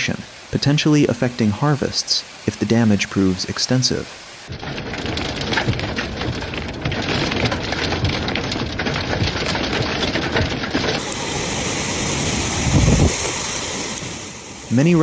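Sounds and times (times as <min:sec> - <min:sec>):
heavy rain with hail: 0:00.0 - 0:15.0.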